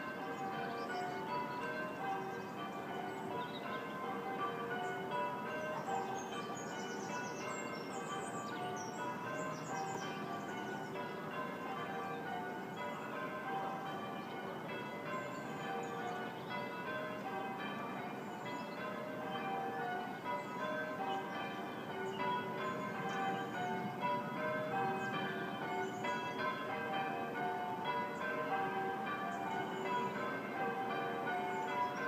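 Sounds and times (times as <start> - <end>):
church bells pealing: 0.0 - 32.0
songbirds chirping: 0.1 - 32.0.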